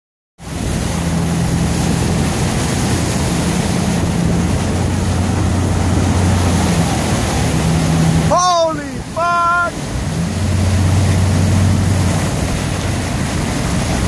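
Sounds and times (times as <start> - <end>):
diesel truck engine running: 0.4 - 14.0
water spraying: 0.4 - 14.0.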